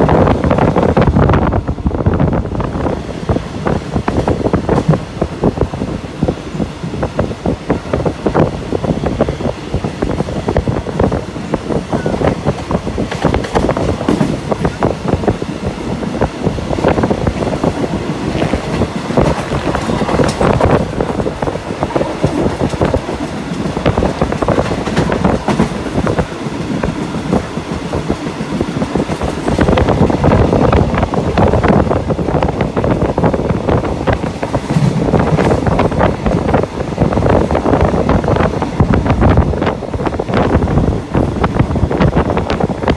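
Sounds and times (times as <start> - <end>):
train wheels clacking over rails: 2.9 - 42.9.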